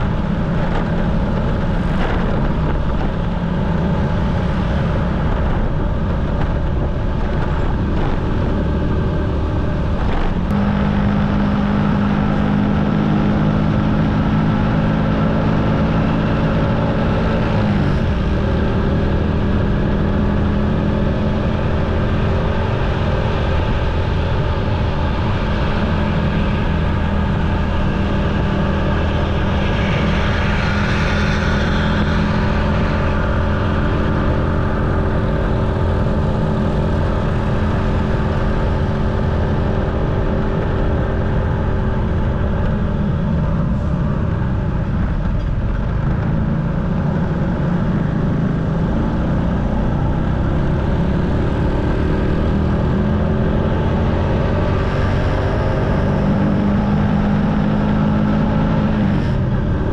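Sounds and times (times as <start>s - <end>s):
motorcycle engine running: 0.0s - 58.8s
low wind: 0.0s - 59.9s
road rumble: 0.0s - 59.9s.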